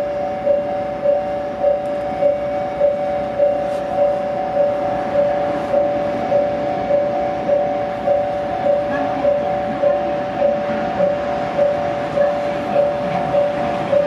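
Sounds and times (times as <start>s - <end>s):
level-crossing warning bell: 0.0s - 14.0s.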